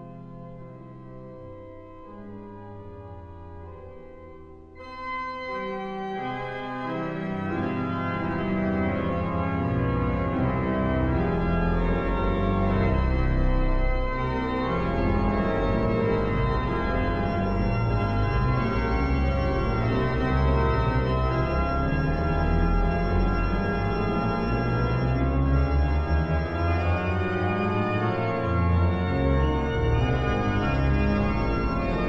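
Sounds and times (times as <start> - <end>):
pipe organ chords: 0.0 - 32.0
deep organ bass notes: 6.1 - 32.0.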